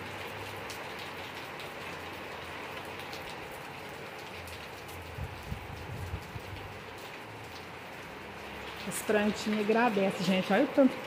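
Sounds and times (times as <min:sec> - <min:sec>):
heavy rain on leaves: 0:00.0 - 0:11.0
raindrops ticking: 0:00.0 - 0:11.0.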